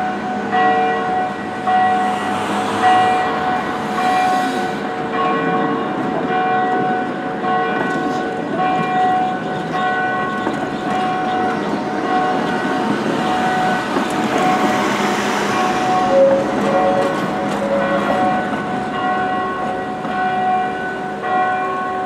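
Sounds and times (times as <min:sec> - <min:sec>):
tram wheels squealing: 0:00.0 - 0:06.2, 0:08.0 - 0:20.8
wheels rumbling on rails: 0:00.0 - 0:22.0.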